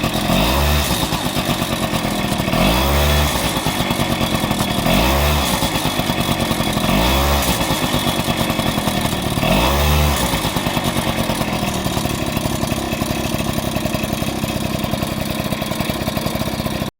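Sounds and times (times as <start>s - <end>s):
engine clicking rattling noise: 0.0s - 16.9s
scooter engine revving and idling: 0.0s - 16.9s.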